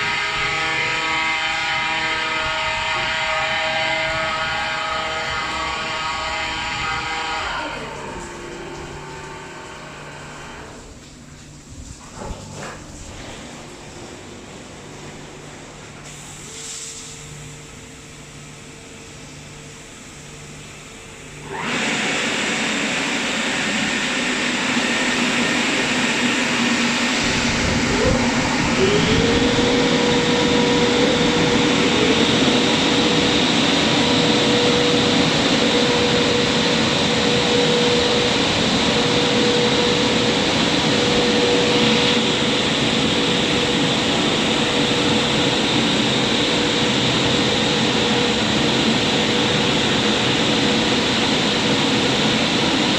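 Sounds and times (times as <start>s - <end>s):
steady hum: 0.0s - 21.6s, 22.2s - 52.9s
car wash machinery whooshing: 0.0s - 52.9s.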